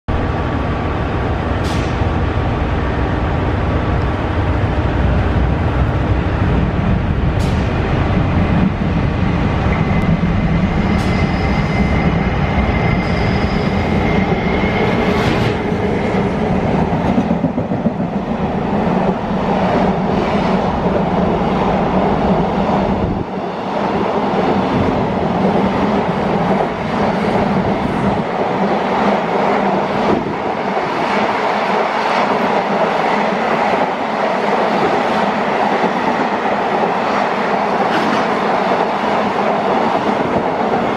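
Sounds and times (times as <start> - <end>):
freight train rumble: 0.1 - 40.9.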